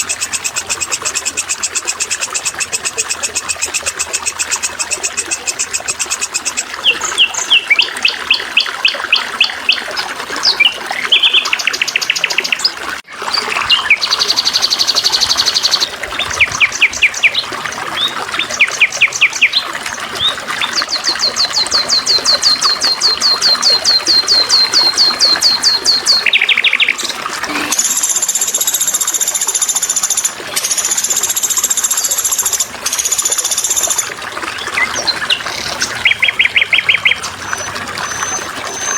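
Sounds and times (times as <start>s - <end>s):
songbirds chirping and trilling: 0.0s - 27.8s, 32.4s - 38.9s
water trickling: 0.0s - 38.9s.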